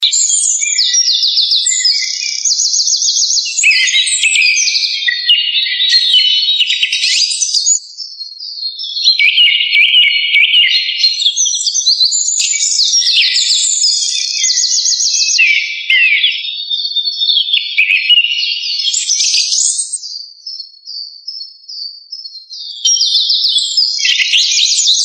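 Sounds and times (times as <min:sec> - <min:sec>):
songbirds trilling and chirping: 0:00.0 - 0:25.0.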